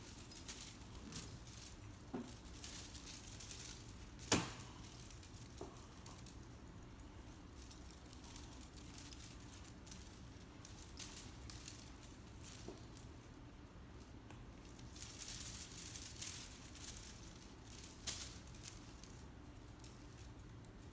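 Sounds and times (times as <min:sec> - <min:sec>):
faint rustling and scuffs: 0:00.0 - 0:20.9.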